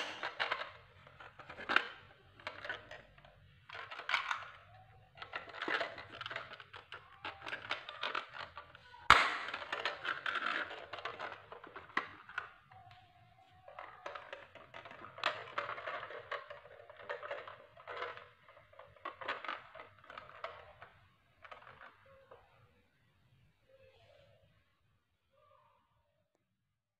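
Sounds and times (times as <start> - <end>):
plastic toy rustling and scraping: 0.0 - 22.6.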